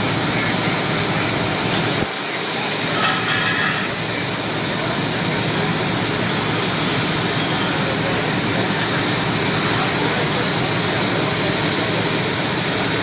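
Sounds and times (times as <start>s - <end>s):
helicopter turbine engines: 0.0s - 13.0s.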